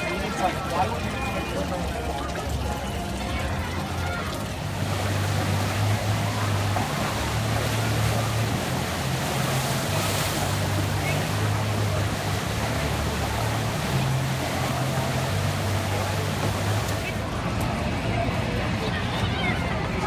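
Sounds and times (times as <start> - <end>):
low machine hum: 0.0 - 20.0
voices: 0.0 - 20.0
steady rushing noise: 1.6 - 20.0.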